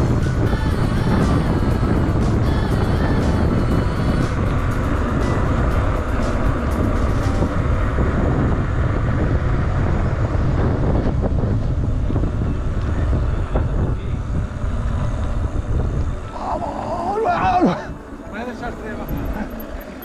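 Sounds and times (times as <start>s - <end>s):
bike tyres rolling: 0.0s - 20.0s
wind rumble on microphone: 0.0s - 20.0s.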